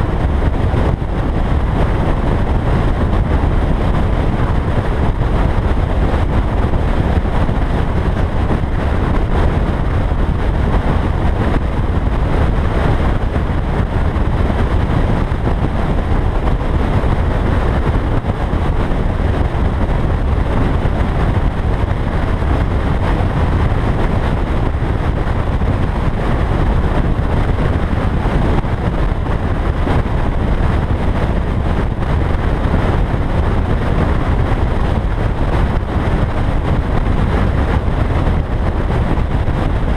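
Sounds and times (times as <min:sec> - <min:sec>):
car road and engine rumble: 0:00.0 - 0:39.9
wind rushing over microphone: 0:00.0 - 0:39.9.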